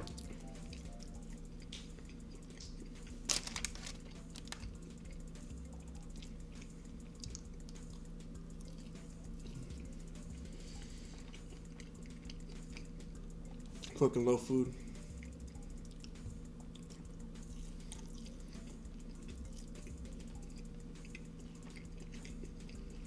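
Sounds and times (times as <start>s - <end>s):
man chewing: 0.0s - 14.0s, 14.9s - 23.0s
low hum: 0.0s - 23.0s.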